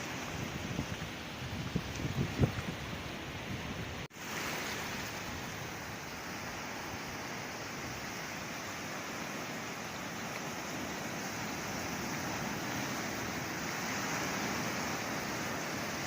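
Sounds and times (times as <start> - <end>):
sea surf washing in: 0.0 - 16.0.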